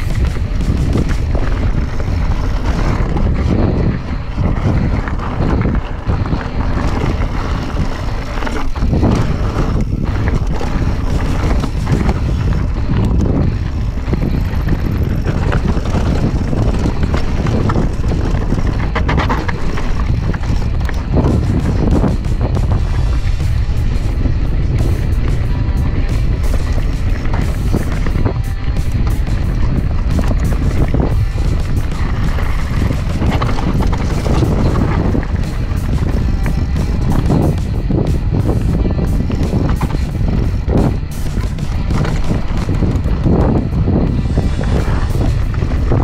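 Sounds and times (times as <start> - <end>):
bike rattling over rocks: 0.0 - 46.0
wheels knocking on stones: 0.0 - 46.0
wind buffeting microphone: 0.0 - 46.0.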